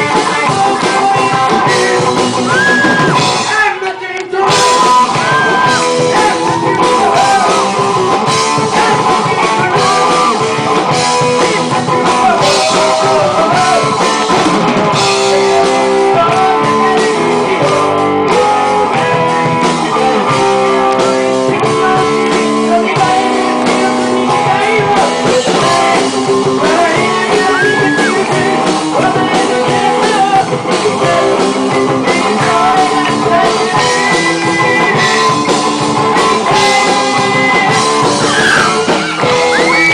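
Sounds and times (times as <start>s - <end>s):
rock song with vocals: 0.0s - 39.9s.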